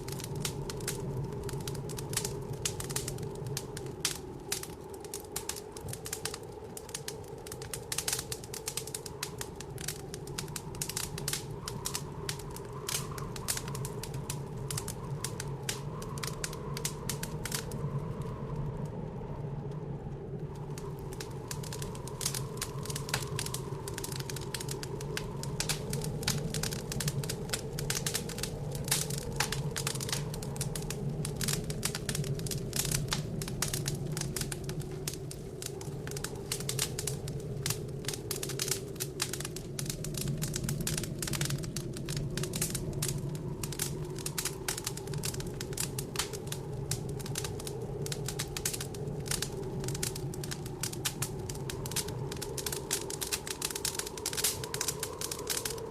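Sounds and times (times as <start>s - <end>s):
blizzard wind: 0.0s - 55.9s
wood fire crackling and popping: 0.0s - 55.9s.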